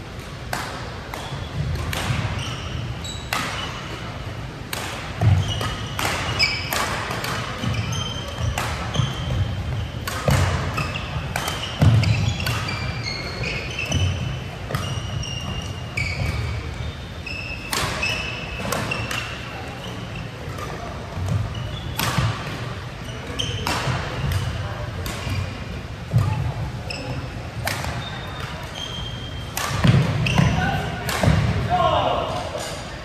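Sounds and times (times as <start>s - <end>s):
sneakers squeaking: 0.1s - 33.0s
rackets hitting shuttlecock: 0.2s - 2.6s, 3.2s - 4.0s, 4.6s - 16.7s, 17.5s - 26.5s, 27.6s - 33.0s.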